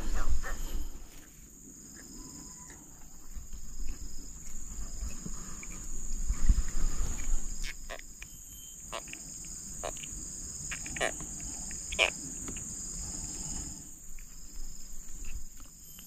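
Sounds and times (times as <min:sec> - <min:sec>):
pulsing insect trill: 0:00.0 - 0:16.0
high-pitched insect drone: 0:01.9 - 0:16.0.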